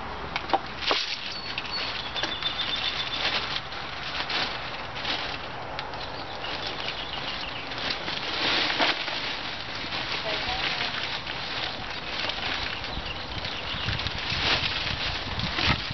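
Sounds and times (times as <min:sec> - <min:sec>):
plastic bag crinkling: 0:00.8 - 0:15.9.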